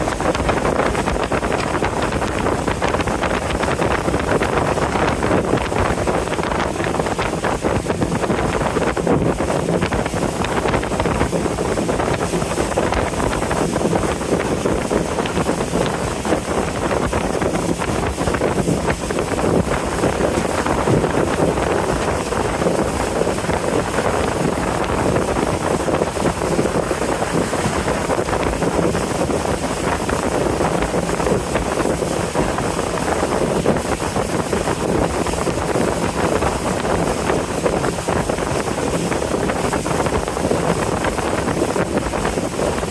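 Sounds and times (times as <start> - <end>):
boat engine running: 0.0 - 42.9
water moving past hull: 0.0 - 42.9
wind on microphone: 0.0 - 42.9.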